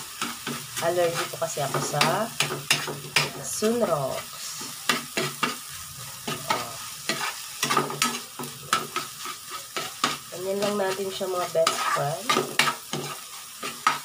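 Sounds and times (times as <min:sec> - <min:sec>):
food sizzling in pan: 0:00.0 - 0:14.0
metal spatula scraping frying pan: 0:00.1 - 0:14.0.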